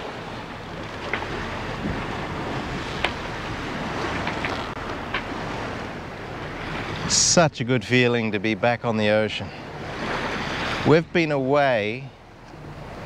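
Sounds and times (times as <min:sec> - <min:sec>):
sea rushing along hulls: 0:00.0 - 0:13.0
wind buffeting microphone: 0:00.0 - 0:13.0.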